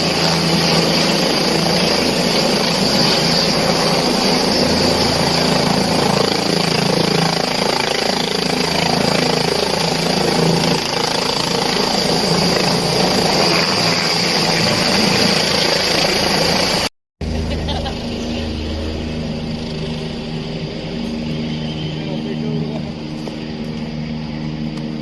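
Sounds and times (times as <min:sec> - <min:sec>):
helicopter rotor noise: 0:00.0 - 0:25.0
turbine high whine: 0:00.0 - 0:25.0.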